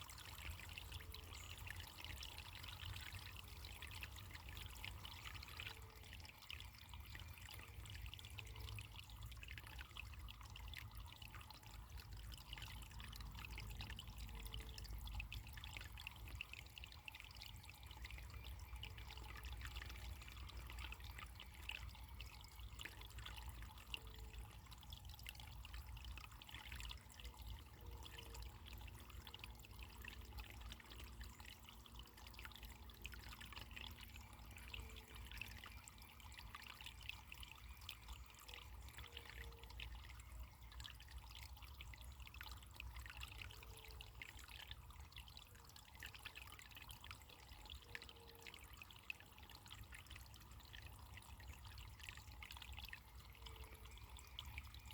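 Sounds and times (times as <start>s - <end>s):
stream trickling: 0.0s - 54.9s.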